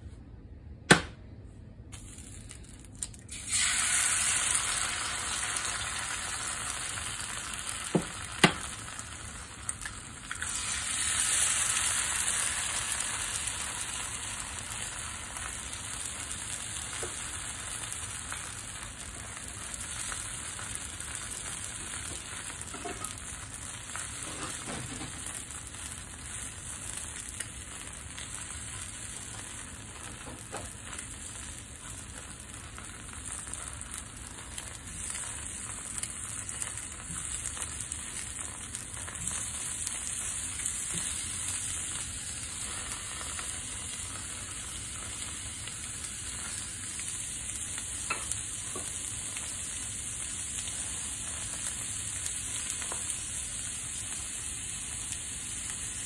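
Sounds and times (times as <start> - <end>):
food sizzling in a pan: 1.9 - 56.0.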